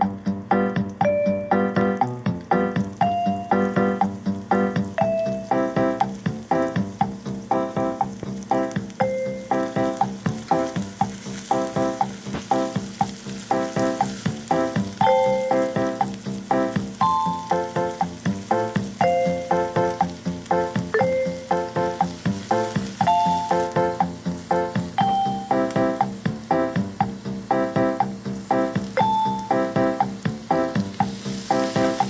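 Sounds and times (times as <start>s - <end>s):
light melodic background music: 0.0s - 32.0s
food sizzling in a frying pan: 1.4s - 32.0s.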